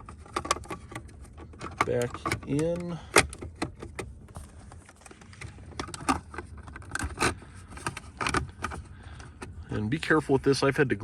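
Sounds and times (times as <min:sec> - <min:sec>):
plastic trim clicking and scraping: 0:00.0 - 0:09.6.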